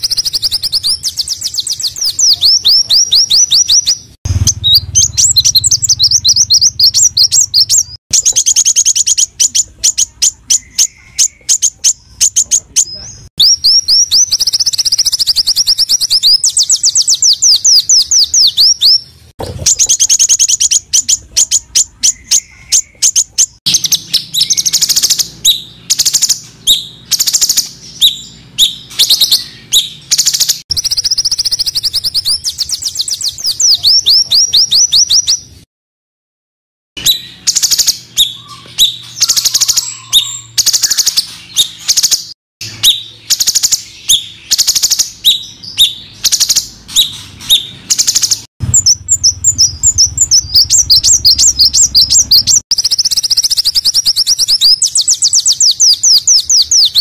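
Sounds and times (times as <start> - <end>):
songbirds trilling: 0.0 - 35.7, 37.0 - 57.0.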